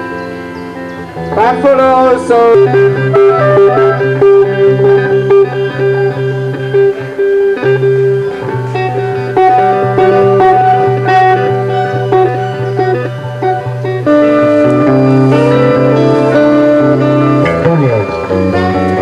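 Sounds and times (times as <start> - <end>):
blues guitar music: 0.0 - 19.0
steady bass line: 0.0 - 19.0.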